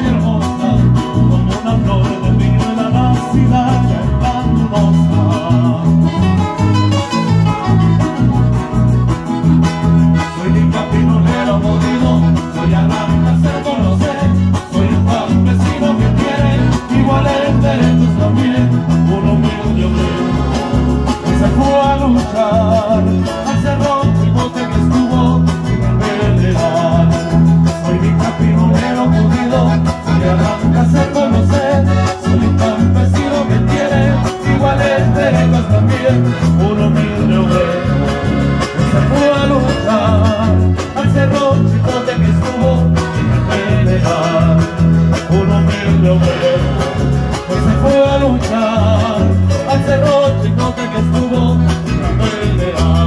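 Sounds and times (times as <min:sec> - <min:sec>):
bass notes: 0:00.0 - 0:53.0
strummed acoustic guitar: 0:00.0 - 0:53.0
piano accordion melody: 0:02.4 - 0:53.0.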